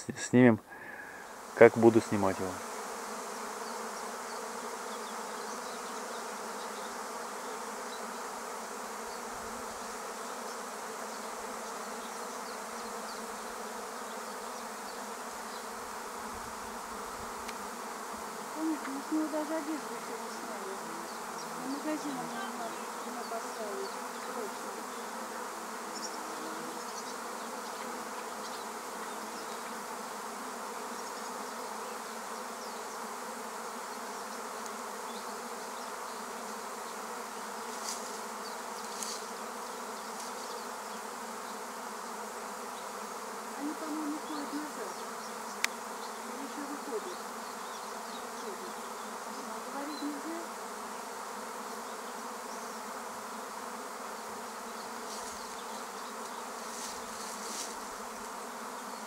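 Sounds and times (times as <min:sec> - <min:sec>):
swarm of bees humming: 0:00.0 - 0:59.0
single bee buzzing past: 0:00.4 - 0:59.0.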